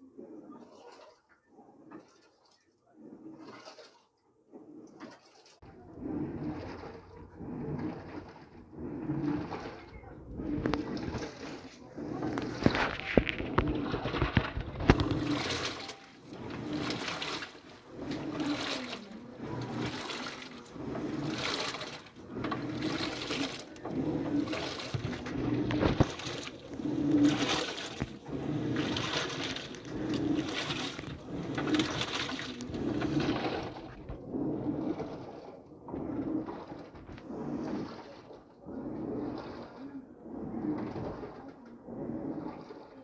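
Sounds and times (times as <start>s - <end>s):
washing machine churning water: 0.0s - 43.0s
washing machine motor humming: 5.6s - 43.0s.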